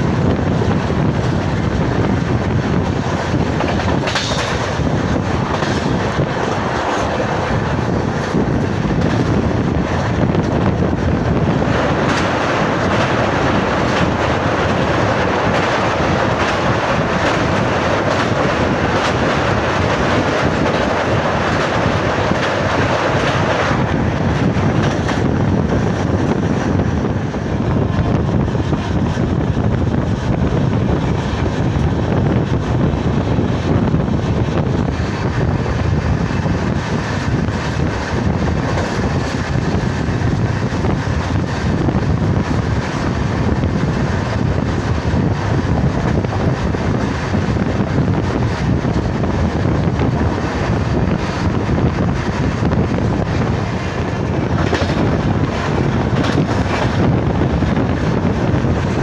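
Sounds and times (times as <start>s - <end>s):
train wheels rumbling on rails: 0.0s - 59.0s
wind rushing over microphone: 0.0s - 59.0s.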